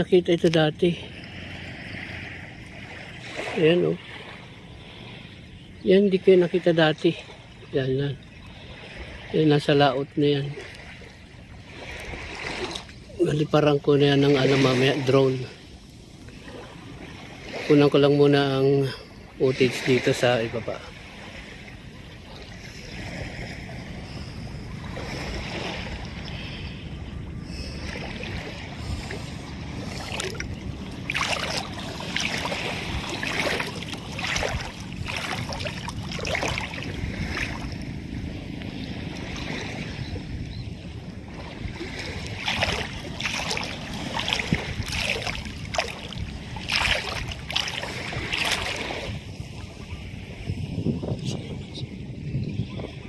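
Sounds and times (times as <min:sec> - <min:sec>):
small waves lapping shore: 0:00.0 - 0:53.0
wind rumble on microphone: 0:00.0 - 0:53.0.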